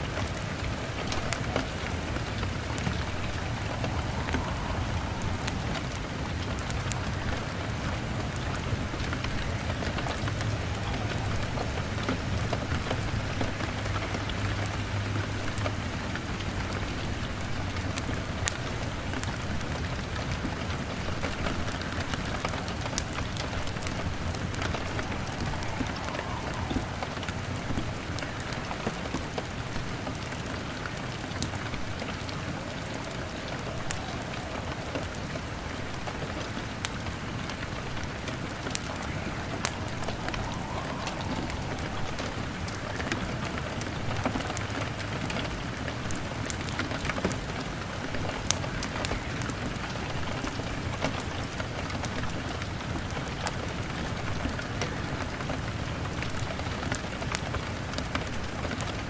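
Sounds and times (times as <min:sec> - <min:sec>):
heavy rain on window: 0:00.0 - 0:59.0
log fire crackling: 0:00.0 - 0:59.0.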